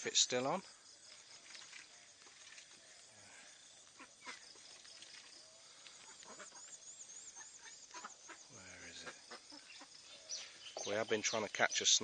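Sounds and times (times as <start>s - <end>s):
faint insect chirring: 0.0s - 12.0s.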